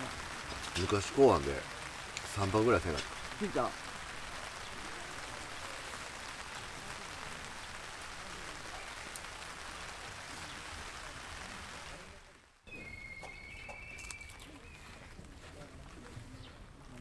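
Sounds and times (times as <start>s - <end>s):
rain on a tent: 0.0s - 17.0s.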